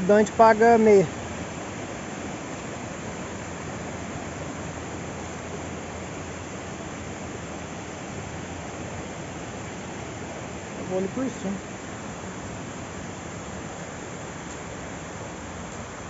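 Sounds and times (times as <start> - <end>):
river flowing over rocks: 0.0 - 16.0.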